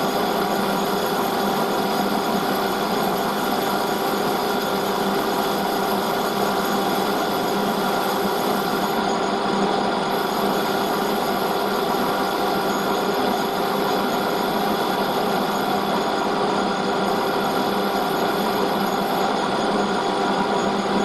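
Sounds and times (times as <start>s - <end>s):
metal lathe humming: 0.0s - 21.0s.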